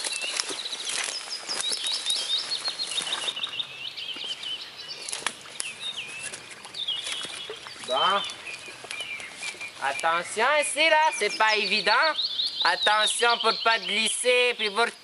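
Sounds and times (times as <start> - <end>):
footsteps on twigs and leaves: 0.0 - 13.3
songbirds singing: 0.0 - 15.0.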